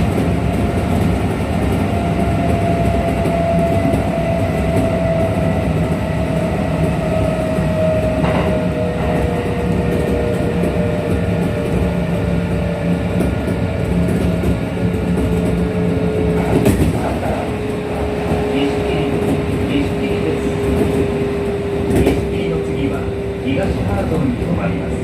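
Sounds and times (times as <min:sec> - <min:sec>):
electric train whine: 0:00.0 - 0:25.0
train wheels rumbling on rail: 0:00.0 - 0:25.0.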